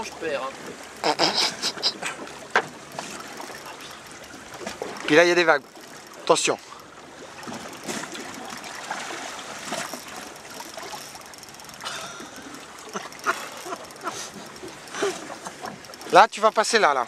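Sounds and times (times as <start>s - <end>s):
water splashing against boat hull: 0.0s - 17.0s.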